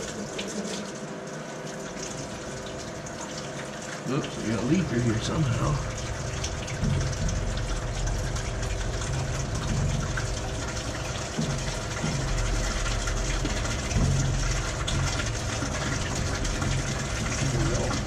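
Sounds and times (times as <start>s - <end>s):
water running from hose: 0.0s - 18.0s.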